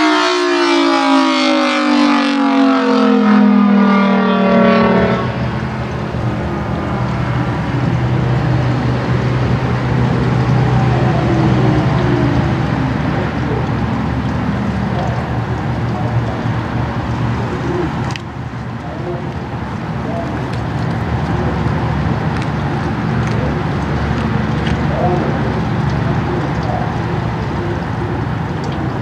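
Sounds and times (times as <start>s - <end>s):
civil defense siren wailing: 0.0s - 29.0s.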